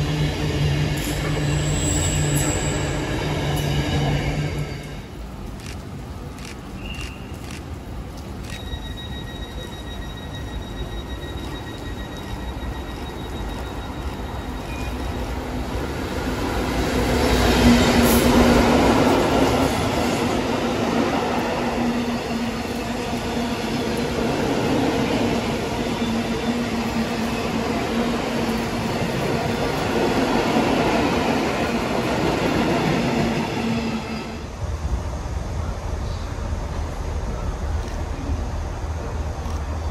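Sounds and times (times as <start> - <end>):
rumble of train wheels: 0.0 - 39.9
train passing: 0.0 - 39.9.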